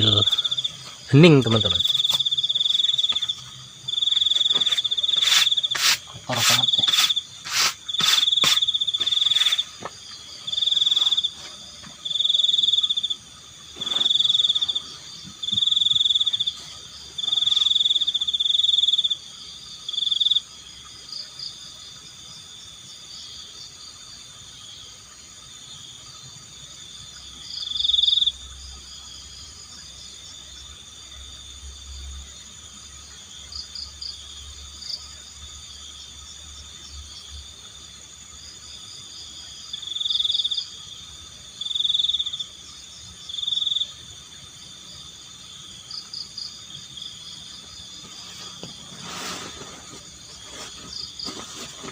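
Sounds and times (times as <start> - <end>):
crickets chirping: 0.0 - 51.9
frogs calling: 0.0 - 51.9
high insect hum: 0.0 - 51.9.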